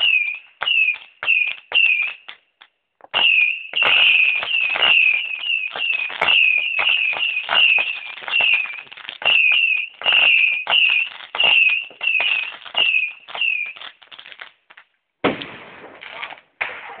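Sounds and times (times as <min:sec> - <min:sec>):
firework whistling: 0:00.0 - 0:02.4, 0:03.1 - 0:14.5
firework crackling: 0:00.0 - 0:17.0.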